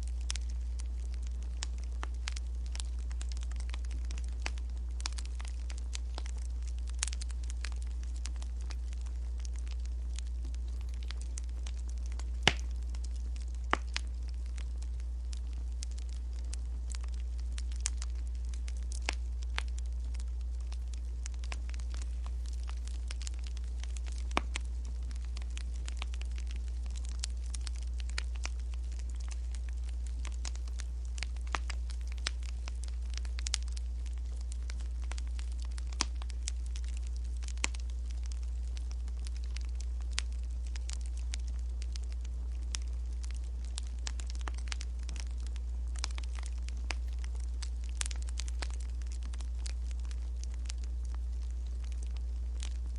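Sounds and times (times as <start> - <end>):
firewood crackling and popping: 0.0 - 52.9.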